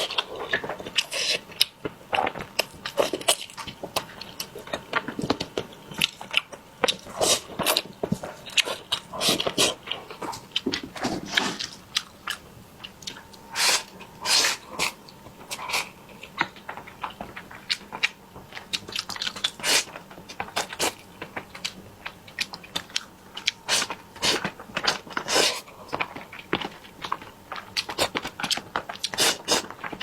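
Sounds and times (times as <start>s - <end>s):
chewing and biting food: 0.0s - 30.0s.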